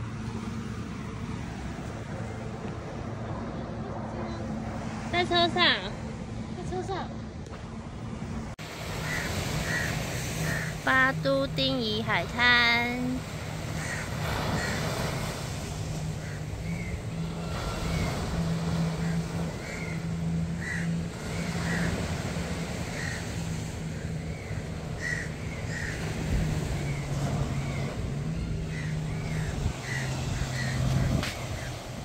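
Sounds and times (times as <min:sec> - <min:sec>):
engine and road hum: 0:00.0 - 0:32.0.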